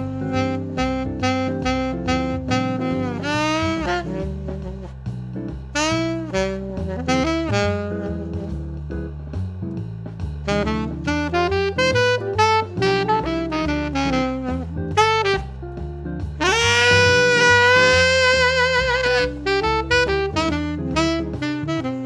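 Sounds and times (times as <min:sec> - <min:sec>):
alto saxophone jazz melody: 0:00.0 - 0:09.8, 0:10.4 - 0:22.0
bass line: 0:00.0 - 0:22.0.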